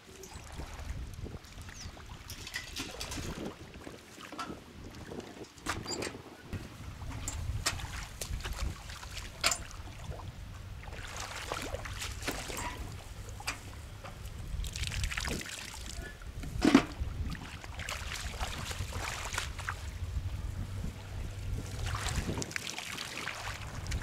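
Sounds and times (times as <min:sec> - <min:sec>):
splashing muddy water: 0:00.0 - 0:05.8, 0:06.8 - 0:24.0
wind rumble on microphone: 0:00.0 - 0:24.0.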